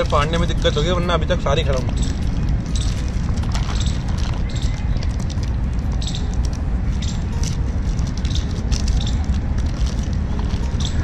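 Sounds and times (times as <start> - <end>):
low outdoor rumble: 0.0 - 11.0
plastic wrappers crinkling: 0.0 - 11.0.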